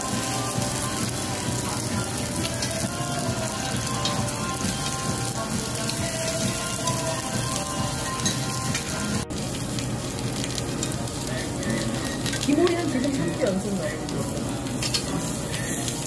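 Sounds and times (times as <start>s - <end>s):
meat and vegetables sizzling on grill: 0.0s - 16.0s.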